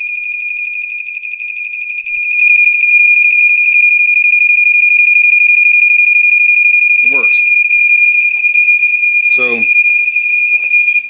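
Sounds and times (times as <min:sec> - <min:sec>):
smoke alarm high-pitched tone: 0:00.0 - 0:11.0.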